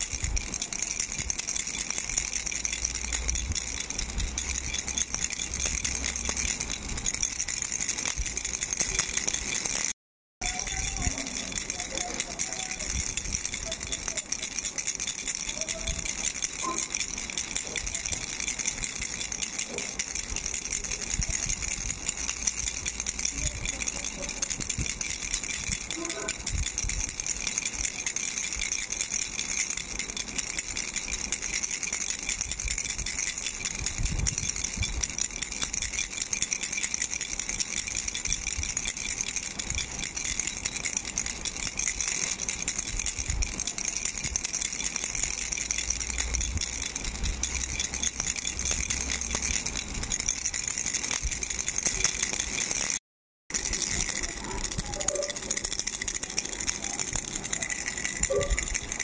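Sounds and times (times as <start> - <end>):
plastic baby rattle shaking: 0.0 - 59.0.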